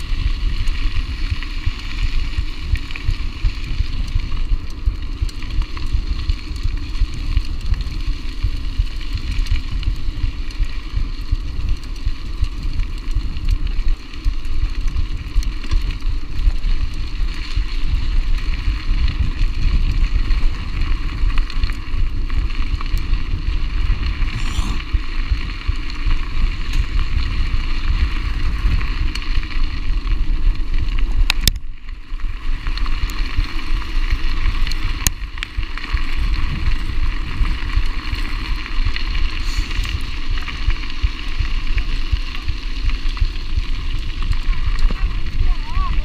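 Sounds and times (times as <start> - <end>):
bike tyres crunching on gravel: 0.0 - 46.0.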